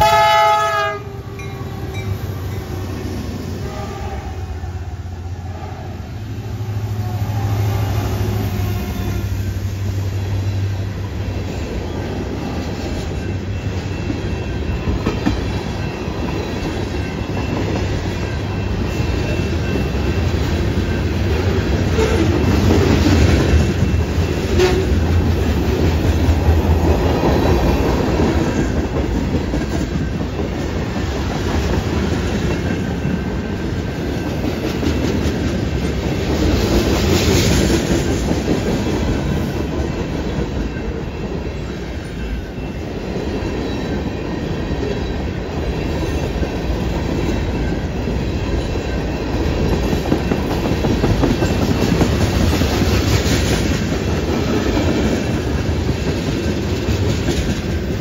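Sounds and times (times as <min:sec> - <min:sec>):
freight train wheels clattering: 0:09.6 - 0:58.0.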